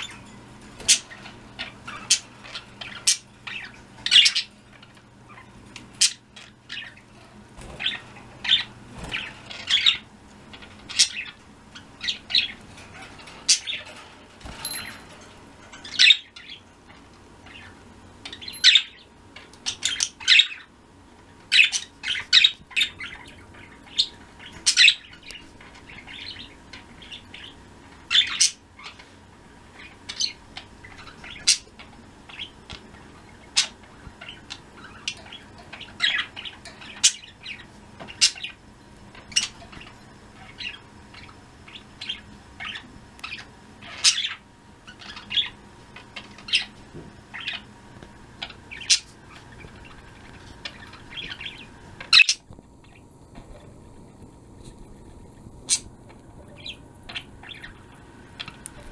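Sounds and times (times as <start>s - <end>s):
budgerigars chirping and trilling: 0.0s - 53.1s, 55.0s - 58.9s.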